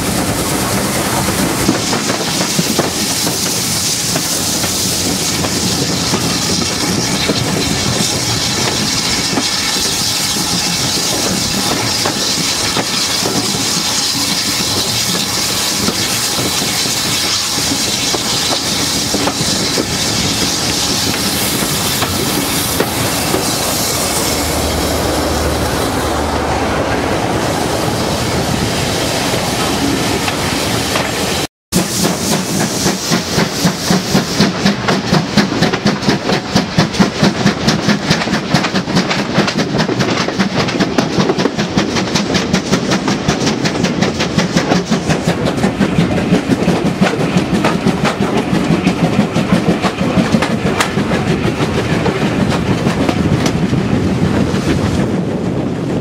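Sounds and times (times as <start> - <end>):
train wheels clattering over rail joints: 0.0 - 24.4, 29.6 - 56.0
steady train rumble: 0.0 - 56.0.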